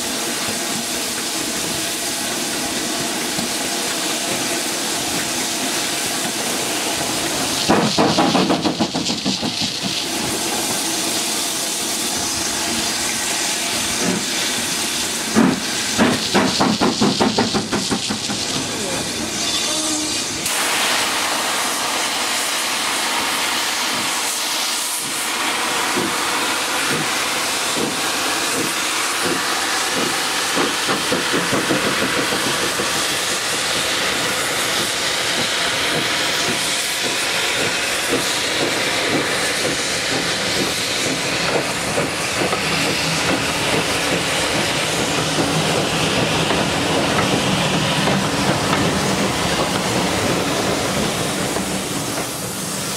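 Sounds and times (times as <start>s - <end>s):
train wheels clacking on rails: 0.0s - 10.9s, 12.0s - 20.8s, 21.8s - 52.9s
steam hissing: 0.0s - 52.9s
steam locomotive pulling away: 0.0s - 52.9s.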